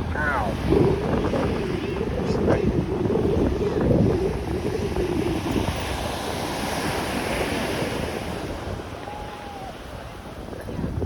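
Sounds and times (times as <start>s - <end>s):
ocean surf washing: 0.0s - 11.0s
wind rumbling on microphone: 0.0s - 11.0s.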